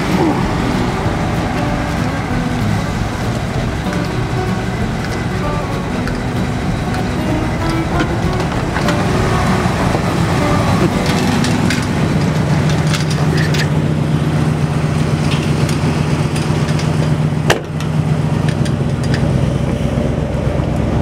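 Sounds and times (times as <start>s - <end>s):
vehicle engine running: 0.0s - 21.0s
clicks and rattles: 0.1s - 14.0s, 15.1s - 19.5s.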